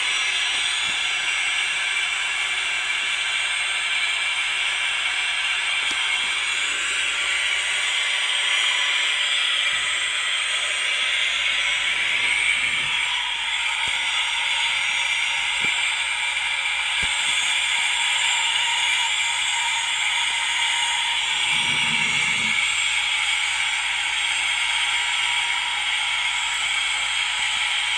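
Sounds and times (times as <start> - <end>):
speaker playing jet engine hiss: 0.0 - 27.9.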